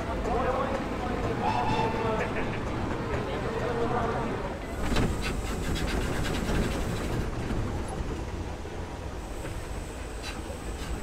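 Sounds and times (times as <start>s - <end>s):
steam engine rumble: 0.0s - 11.0s.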